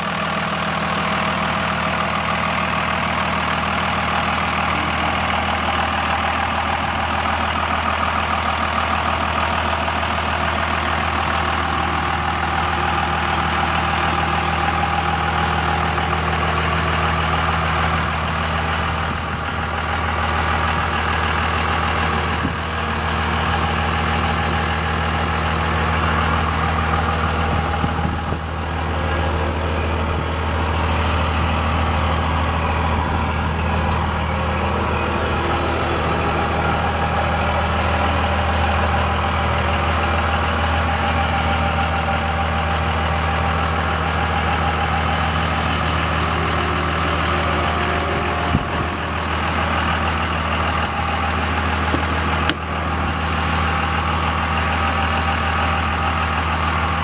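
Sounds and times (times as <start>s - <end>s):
pickup truck engine idling: 0.0s - 57.0s.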